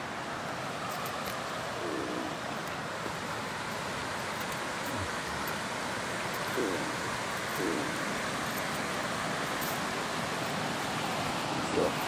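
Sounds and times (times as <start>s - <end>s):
river water rushing over weir: 0.0s - 12.0s.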